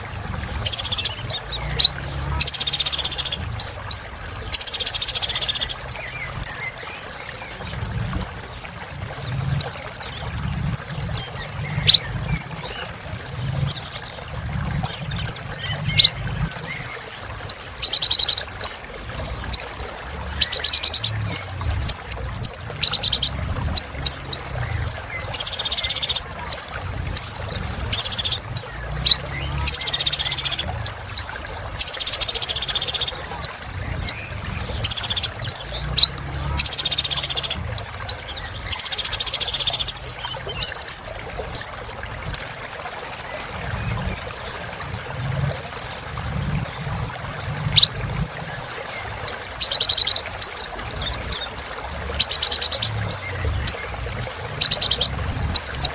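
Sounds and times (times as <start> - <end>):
bird singing high chirps and trills: 0.0 - 55.9.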